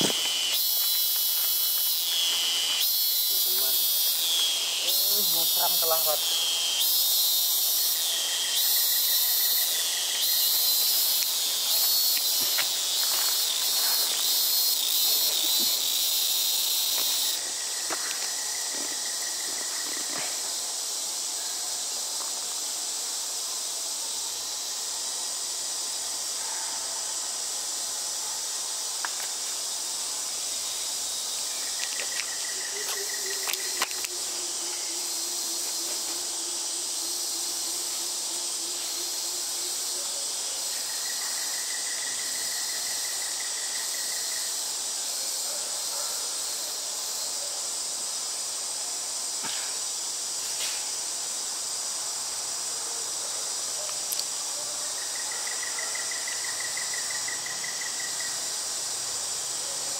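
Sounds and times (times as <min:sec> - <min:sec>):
insects buzzing in chorus: 0:00.0 - 0:59.9.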